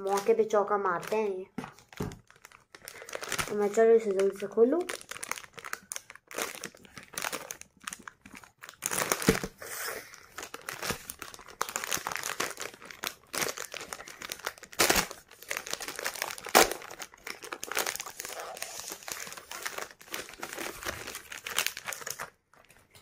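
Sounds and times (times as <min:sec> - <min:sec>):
plastic pouch crinkling: 0:00.0 - 0:23.0.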